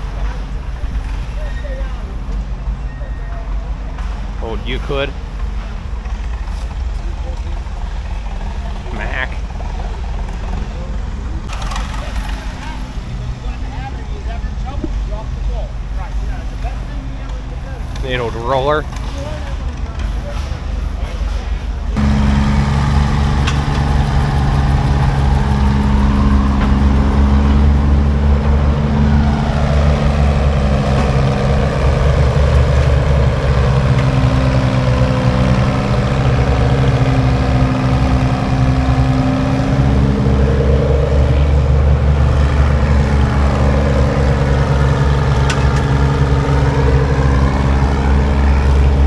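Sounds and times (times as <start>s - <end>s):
large engine idling: 0.0s - 49.0s.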